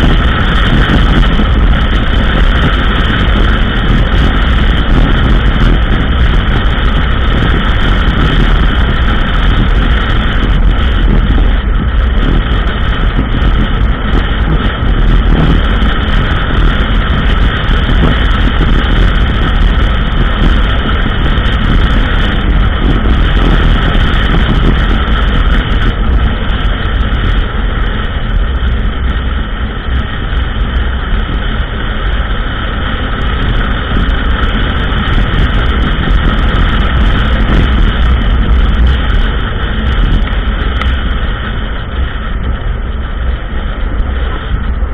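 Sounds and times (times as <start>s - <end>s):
atv engine running: 0.0s - 44.9s
wind: 0.0s - 44.9s.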